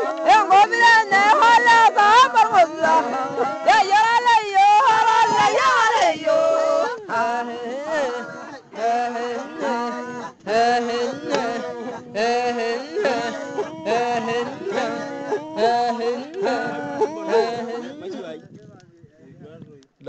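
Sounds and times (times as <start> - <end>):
men chanting: 0.0 - 18.6.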